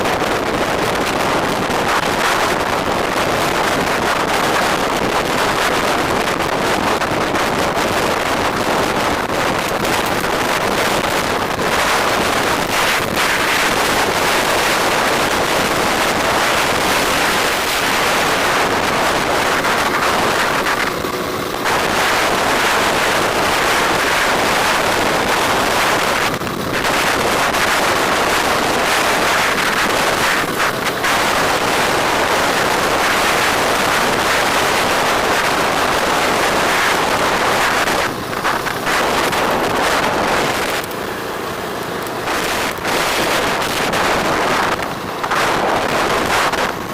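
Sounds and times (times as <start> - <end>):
traffic noise: 0.0 - 46.9
wind rushing over microphone: 0.0 - 46.9.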